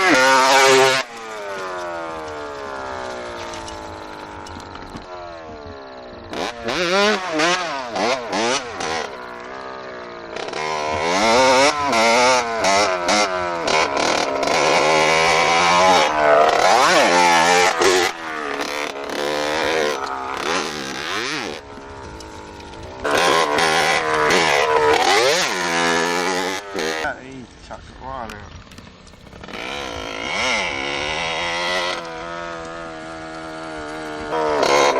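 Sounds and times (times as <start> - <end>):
motorbike engine revving: 0.0 - 34.9.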